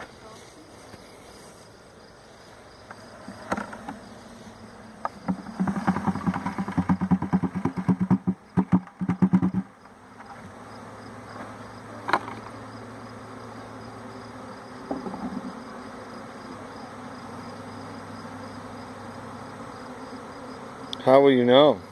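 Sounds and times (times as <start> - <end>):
bees buzzing: 0.0 - 21.9.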